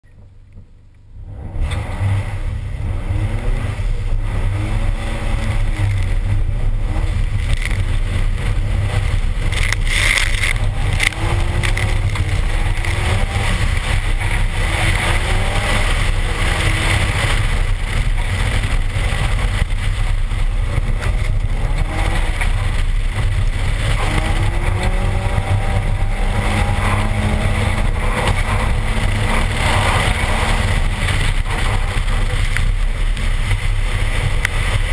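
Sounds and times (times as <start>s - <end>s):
turbocharged car engine accelerating: 0.0s - 34.9s
wind rumble: 0.0s - 34.9s.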